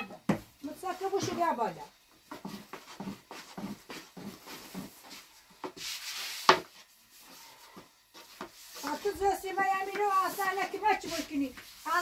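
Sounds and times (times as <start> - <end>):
rolling pin rubbing on dough: 2.3 - 12.0.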